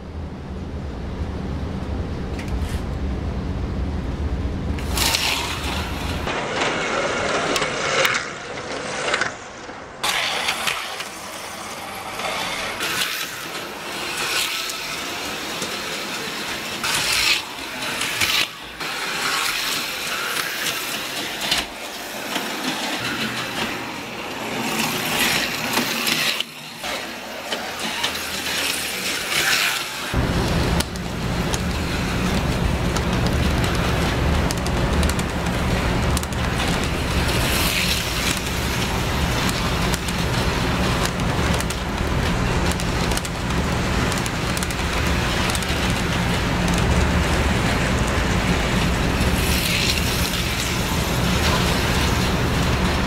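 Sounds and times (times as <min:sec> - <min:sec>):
slot cars whirring past: 0:04.5 - 0:53.0.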